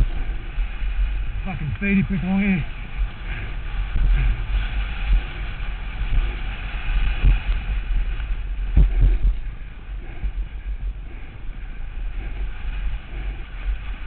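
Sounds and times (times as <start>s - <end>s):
tyres rumbling over dirt trail: 0.0s - 14.0s
wind buffeting microphone: 0.0s - 14.0s
bike knocking on bumps: 1.8s - 14.0s.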